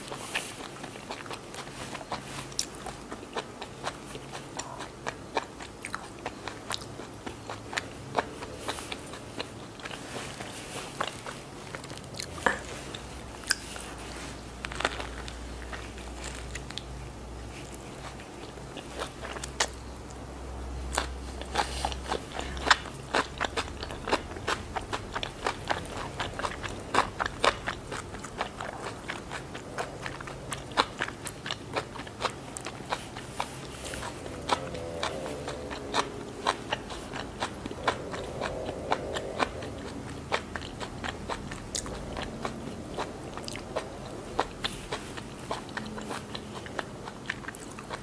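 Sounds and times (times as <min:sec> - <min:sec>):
crisp chewing crunches: 0:00.0 - 0:20.2, 0:20.8 - 0:48.0.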